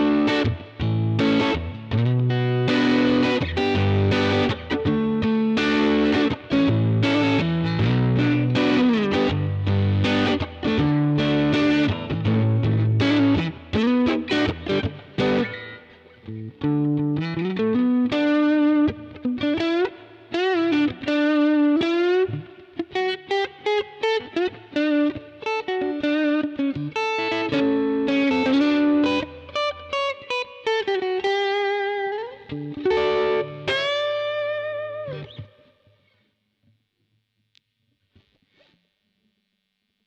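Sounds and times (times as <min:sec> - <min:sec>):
electric guitar blues lead: 0:00.0 - 0:36.2.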